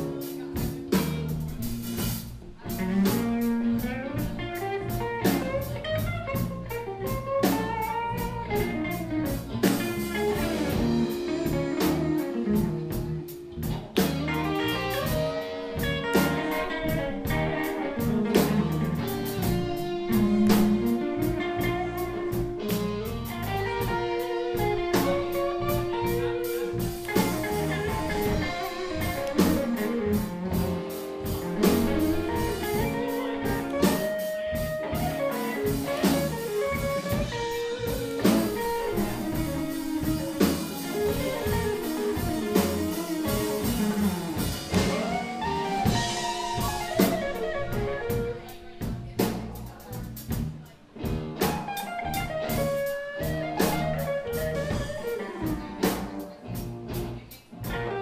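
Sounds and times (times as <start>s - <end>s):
drum kit: 0.0s - 58.0s
electric guitar lead with bends: 0.0s - 58.0s.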